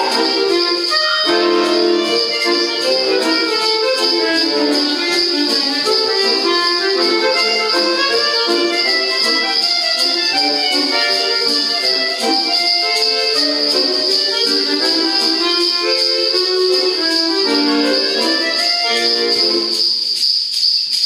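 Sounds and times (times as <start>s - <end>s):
accordion folk tune: 0.0s - 20.4s
light percussion beat: 0.0s - 21.0s.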